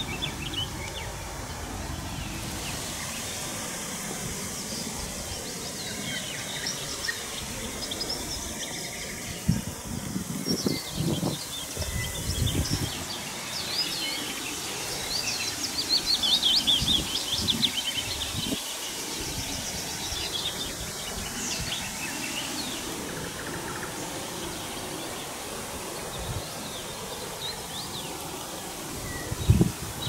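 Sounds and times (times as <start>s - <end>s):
outdoor background noise: 0.0s - 30.0s
songbirds singing: 0.0s - 30.0s.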